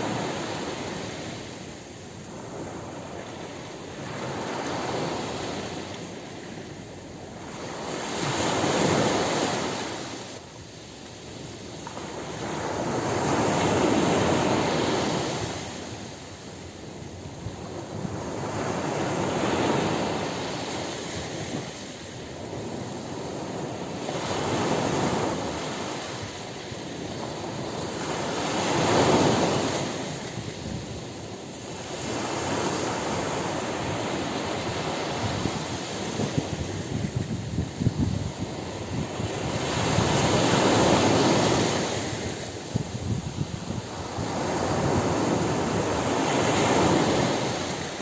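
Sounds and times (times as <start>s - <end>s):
waves breaking on beach: 0.0s - 48.0s.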